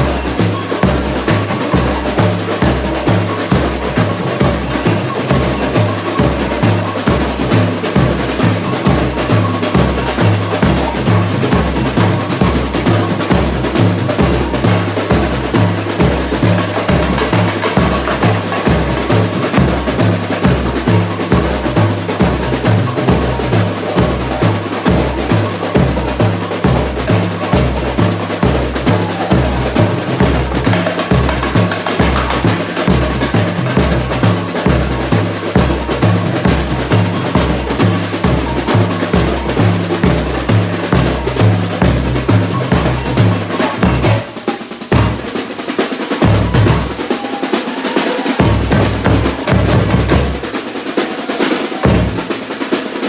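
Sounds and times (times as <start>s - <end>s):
bass surdo drums: 0.0s - 45.6s, 46.2s - 50.6s, 51.7s - 52.4s
hand percussion: 0.0s - 53.0s
snare drums: 0.0s - 53.0s.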